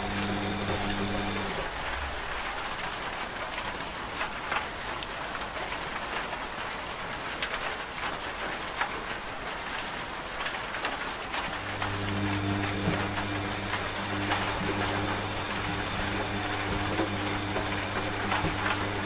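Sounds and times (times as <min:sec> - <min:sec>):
raindrops striking close by: 0:00.0 - 0:19.0
steady rain: 0:00.0 - 0:19.0.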